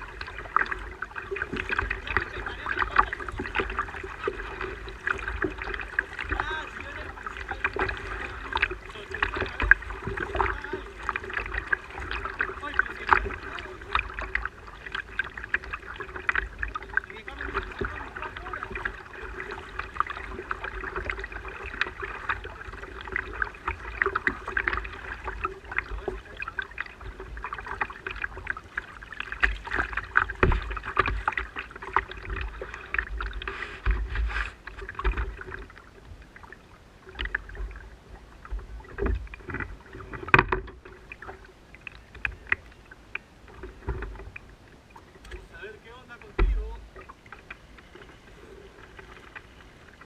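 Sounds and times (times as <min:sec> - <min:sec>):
water lapping against kayak hull: 0:00.0 - 0:50.0.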